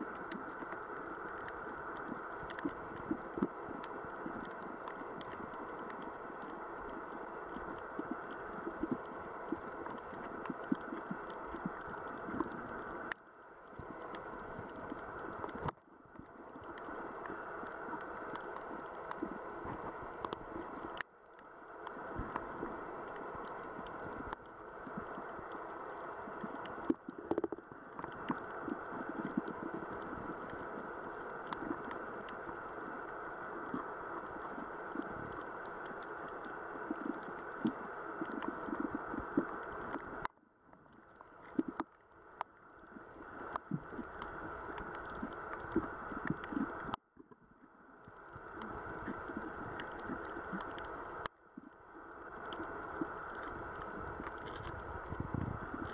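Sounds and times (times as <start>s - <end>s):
muffled underwater water rush: 0.0s - 55.9s
underwater crackles and clicks: 0.0s - 55.9s.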